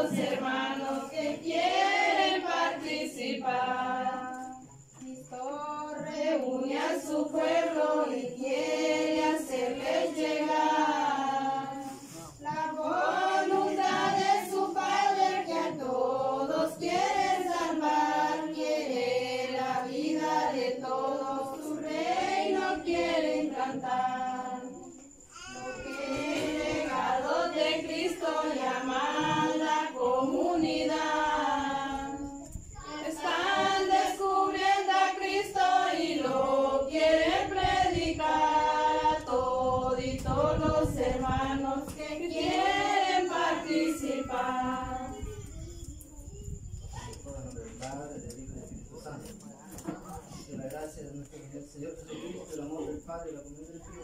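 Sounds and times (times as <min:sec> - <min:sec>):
group of people singing: 0:00.0 - 0:45.5.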